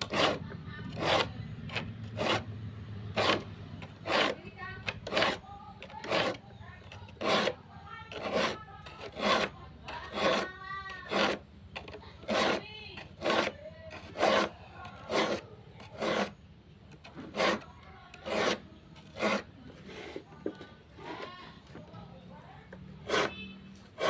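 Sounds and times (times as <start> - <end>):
file rasping on saw teeth: 0.0 - 2.5, 3.1 - 16.4, 17.0 - 20.3, 22.9 - 24.0.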